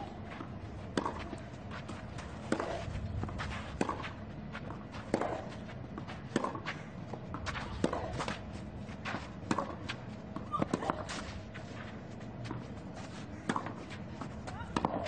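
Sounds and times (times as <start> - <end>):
shoes scuffing on clay: 0.0 - 15.0
racket hitting tennis ball: 0.3 - 11.8, 12.5 - 15.0.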